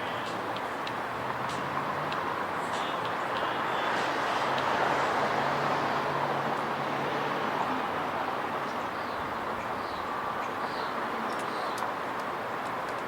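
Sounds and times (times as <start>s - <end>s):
distant road traffic: 0.0s - 13.0s.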